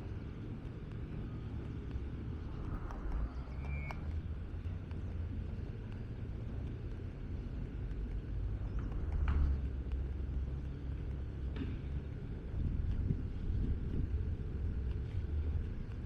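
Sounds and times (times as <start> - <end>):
faint clicks: 0.0 - 16.0
low outdoor rumble: 0.0 - 16.0.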